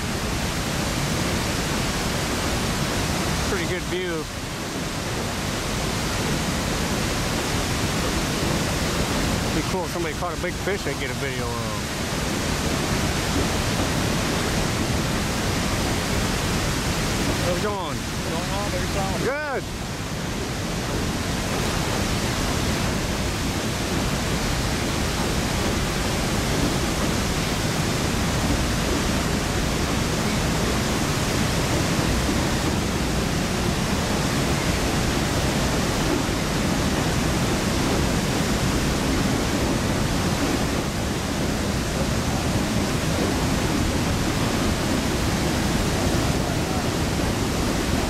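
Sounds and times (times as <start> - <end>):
freight train rolling over bridge: 0.0 - 48.0
river water rushing: 0.0 - 48.0.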